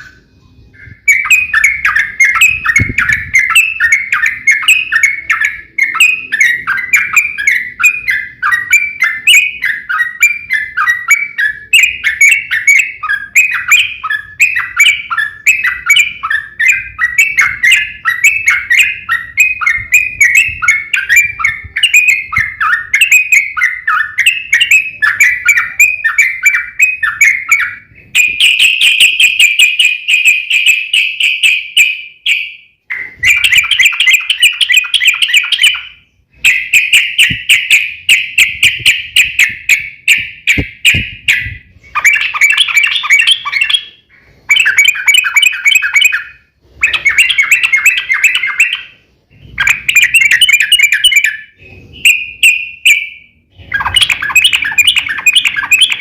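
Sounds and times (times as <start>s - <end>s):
bird song chattering: 0.0s - 56.0s
buzzy bird trill: 0.0s - 56.0s.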